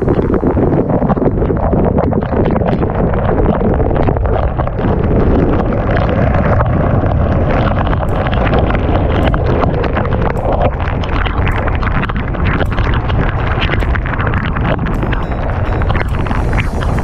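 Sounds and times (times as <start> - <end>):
heavy rain pouring: 0.0 - 17.0
raindrops ticking: 0.0 - 17.0
wind buffeting microphone: 0.0 - 17.0.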